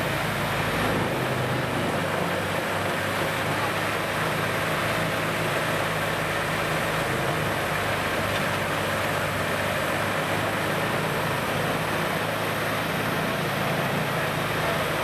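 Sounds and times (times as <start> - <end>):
wood grinder engine drone: 0.0 - 15.0.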